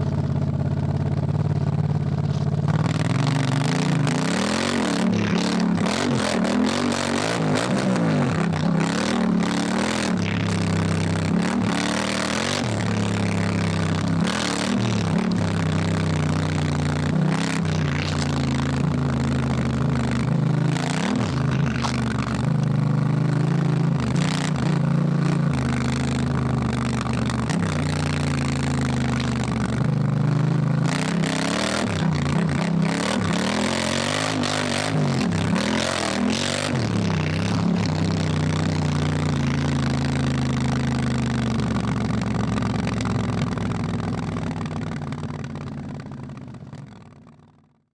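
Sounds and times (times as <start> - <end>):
motorcycle engine accelerating: 0.0 - 47.7.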